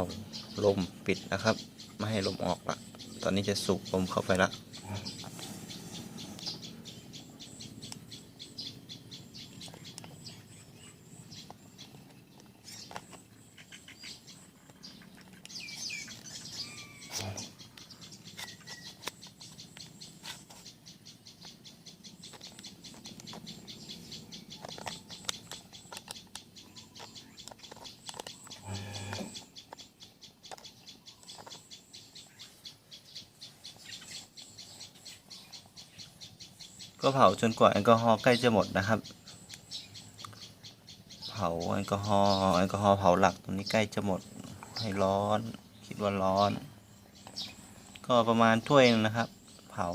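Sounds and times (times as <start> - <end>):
faint bird chirps: 0.0 - 49.9.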